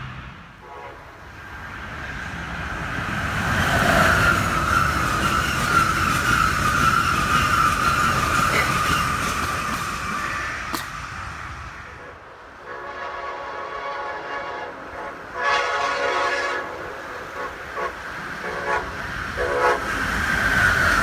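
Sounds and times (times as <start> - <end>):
train rushing and rumbling past: 0.0 - 21.0.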